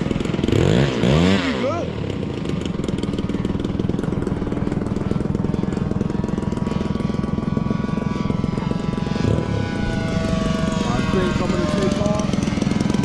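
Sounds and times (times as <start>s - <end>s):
model airplane engine running: 0.0s - 13.0s.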